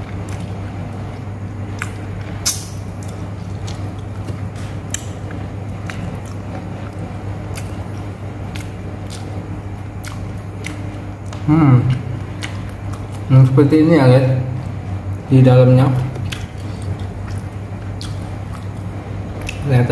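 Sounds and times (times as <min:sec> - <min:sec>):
chewing with bone crunching: 0:00.0 - 0:13.6, 0:16.1 - 0:19.7
steady low hum: 0:00.0 - 0:19.9.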